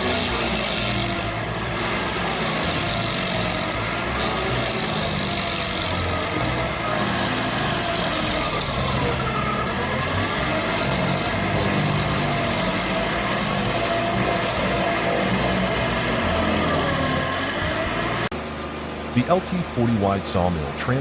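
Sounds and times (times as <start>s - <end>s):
machine engine running: 0.0s - 21.0s.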